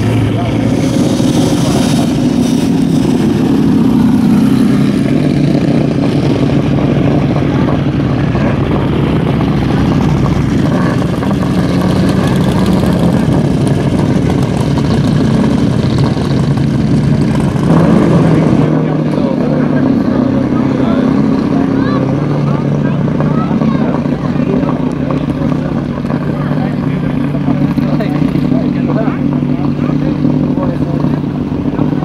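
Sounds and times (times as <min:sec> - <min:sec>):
car engine running at low revs: 0:00.0 - 0:32.0.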